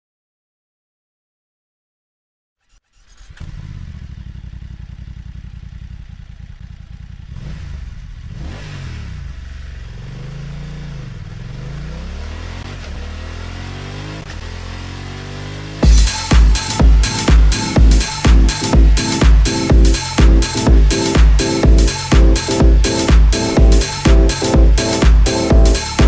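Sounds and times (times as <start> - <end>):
motorcycle engine idling and revving: 2.9 - 26.0.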